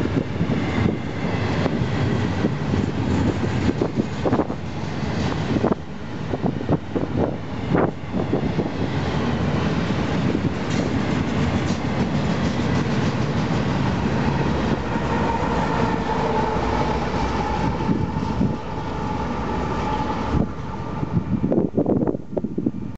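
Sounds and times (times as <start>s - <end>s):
freight train rolling past: 0.0s - 22.9s.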